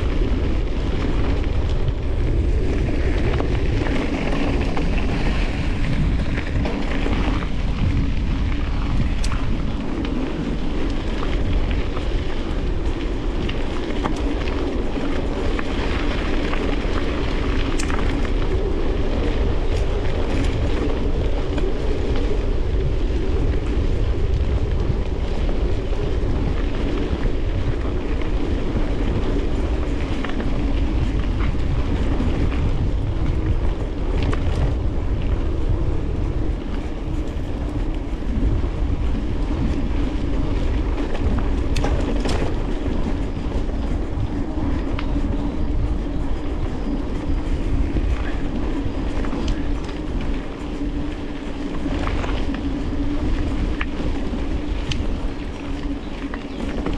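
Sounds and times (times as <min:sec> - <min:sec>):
bike rattling clacks: 0:00.0 - 0:56.9
bike tyres rolling on dirt and rock: 0:00.0 - 0:56.9
wind rumble on microphone: 0:00.0 - 0:56.9.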